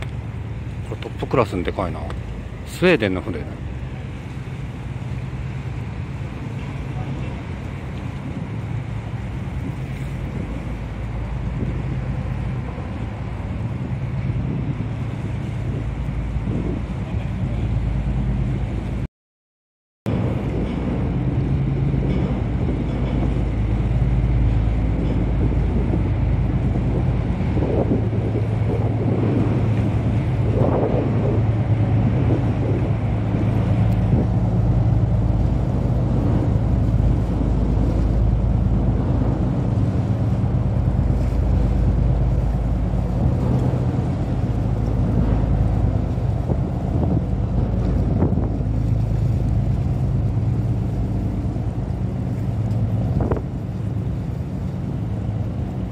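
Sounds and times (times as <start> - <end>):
ship engine drone: 0.0 - 19.1, 20.1 - 55.9
wind rumbling on microphone: 0.0 - 19.1, 20.1 - 55.9.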